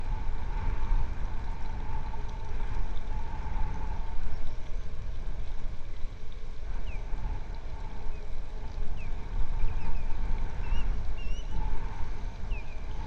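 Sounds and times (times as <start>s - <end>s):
faint continuous drone: 0.0s - 13.0s.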